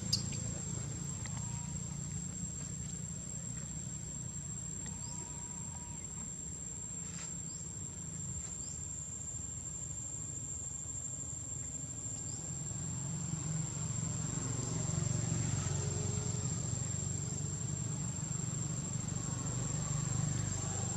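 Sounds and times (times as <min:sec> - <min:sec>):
low steady rumble: 0:00.0 - 0:13.4, 0:16.0 - 0:20.9
insects droning: 0:00.0 - 0:20.9.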